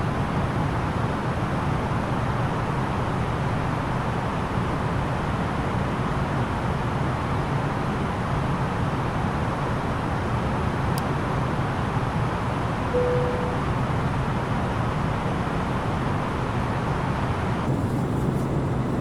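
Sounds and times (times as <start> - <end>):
low hum of jet engines: 0.0 - 19.0.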